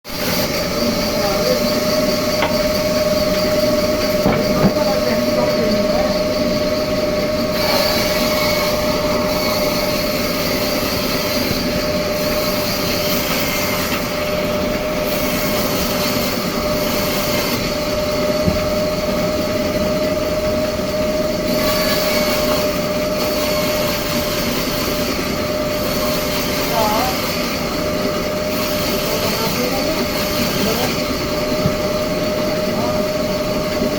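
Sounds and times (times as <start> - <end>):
sawmill saw whining: 0.1 - 33.9.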